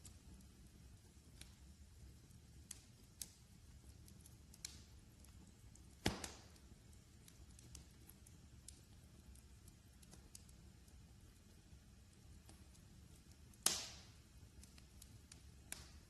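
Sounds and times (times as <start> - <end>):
fire crackling: 0.0 - 16.0
fire popping: 0.0 - 16.0.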